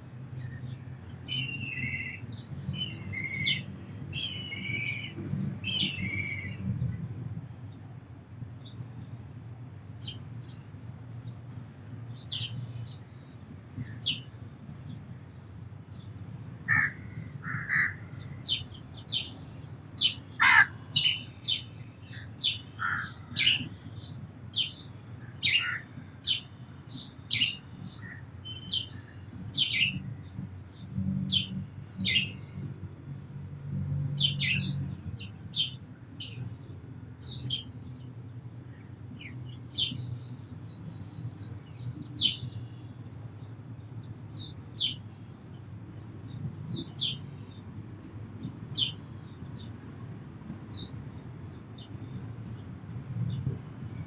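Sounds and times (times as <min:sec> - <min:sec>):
sparrows chirping: 0:00.2 - 0:54.0.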